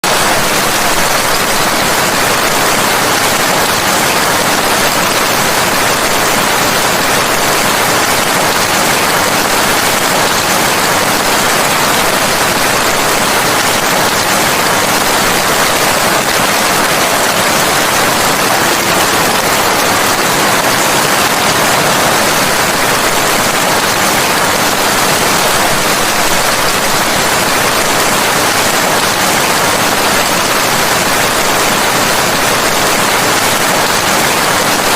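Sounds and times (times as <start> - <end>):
heavy rain hiss: 0.1 - 34.9.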